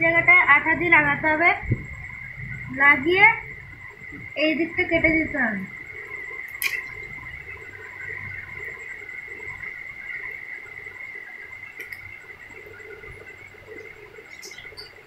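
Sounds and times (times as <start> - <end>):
high-pitched background drone: 0.0 - 15.0.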